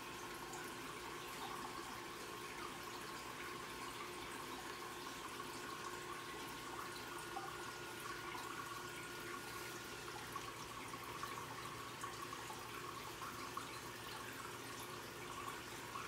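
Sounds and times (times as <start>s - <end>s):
faint steady hum: 0.0s - 16.0s
water drips: 0.0s - 16.0s
water trickling and bubbling: 0.0s - 16.0s.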